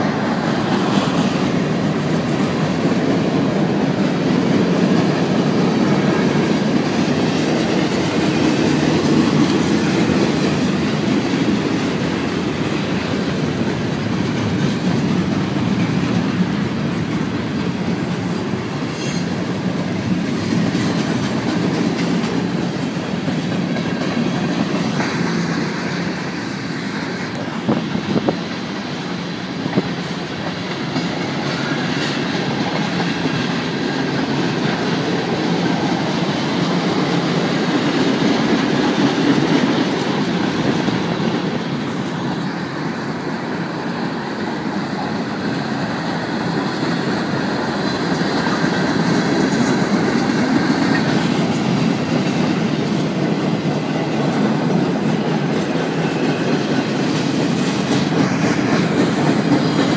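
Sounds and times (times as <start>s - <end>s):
clickety-clack over rail joints: 0.0s - 59.9s
freight train wheels rumbling on rail: 0.0s - 59.9s.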